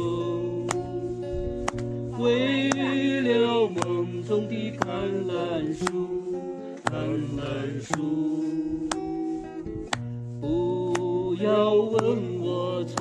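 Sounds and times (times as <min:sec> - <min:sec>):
man singing: 0:00.0 - 0:09.5, 0:10.4 - 0:13.0
acoustic guitar strumming chords: 0:00.0 - 0:13.0.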